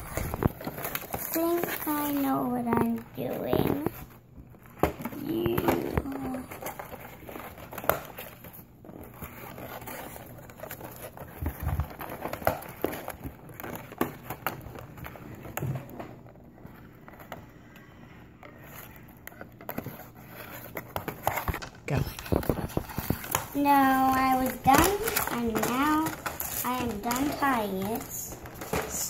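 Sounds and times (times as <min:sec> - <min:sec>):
toy packaging being handled: 0:00.0 - 0:17.7, 0:18.4 - 0:29.0.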